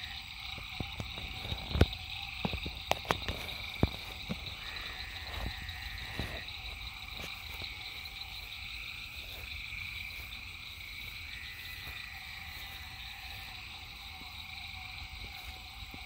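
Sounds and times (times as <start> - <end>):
frogs and insects trilling: 0.0 - 16.0.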